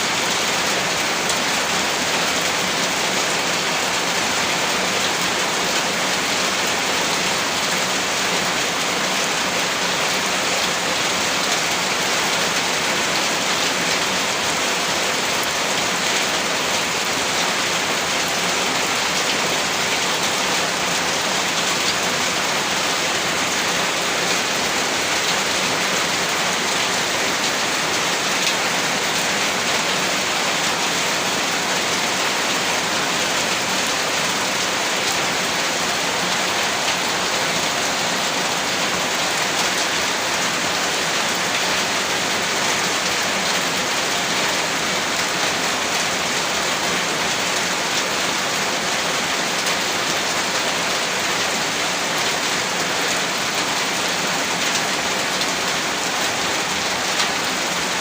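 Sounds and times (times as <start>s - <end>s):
heavy rain on a rooftop: 0.0s - 58.0s.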